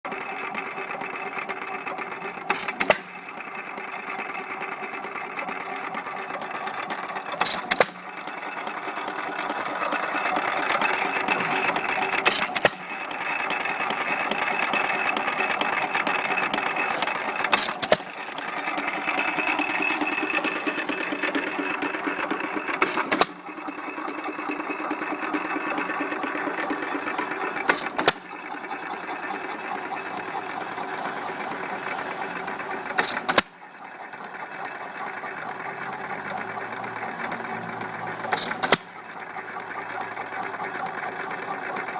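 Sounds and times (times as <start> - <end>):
single-cylinder engine clattering: 0.1 - 41.9.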